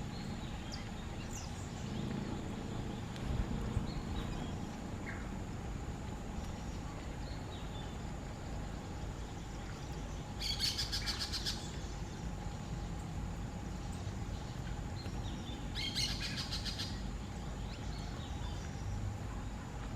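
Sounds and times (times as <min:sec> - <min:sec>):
low background rumble: 0:00.0 - 0:19.9.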